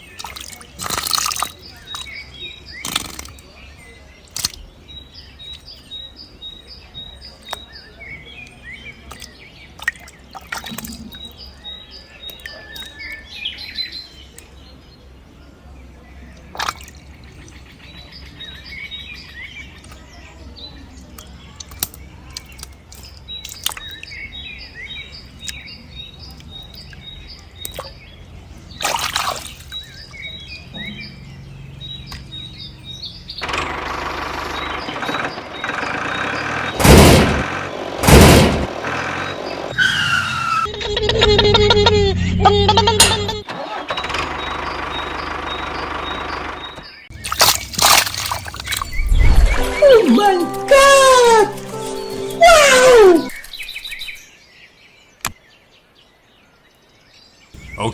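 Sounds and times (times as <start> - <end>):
small birds chirping: 0.0 - 43.5, 44.2 - 57.9.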